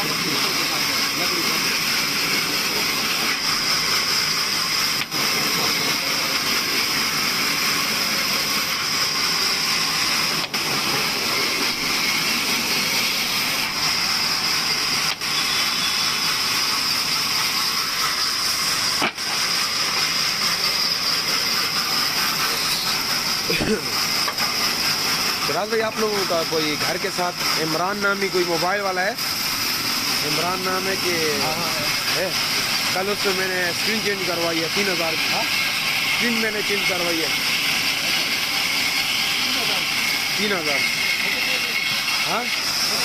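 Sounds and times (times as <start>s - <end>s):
sawmill machine whirring: 0.0s - 43.0s.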